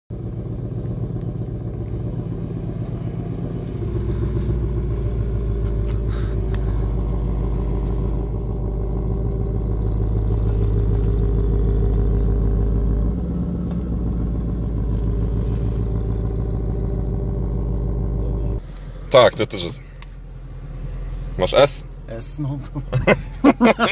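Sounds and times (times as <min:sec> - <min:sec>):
car engine idling: 0:00.1 - 0:23.9.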